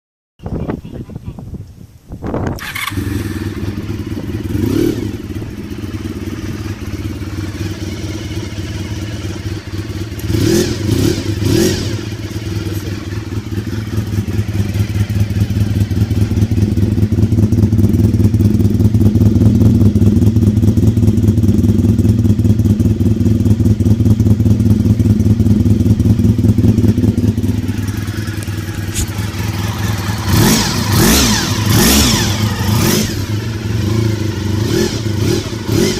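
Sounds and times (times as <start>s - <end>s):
motorcycle engine idling: 2.6s - 35.9s.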